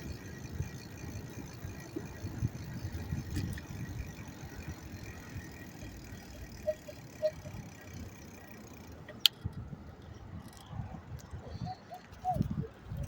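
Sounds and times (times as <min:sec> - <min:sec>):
passing traffic: 0:00.0 - 0:13.0
wind rumble: 0:00.0 - 0:13.0.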